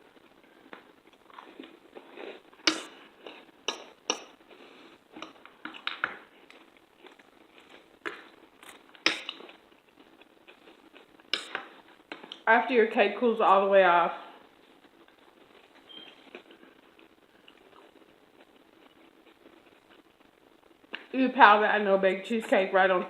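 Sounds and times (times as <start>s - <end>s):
person chewing crunchy food: 0.1s - 12.5s, 14.4s - 21.0s.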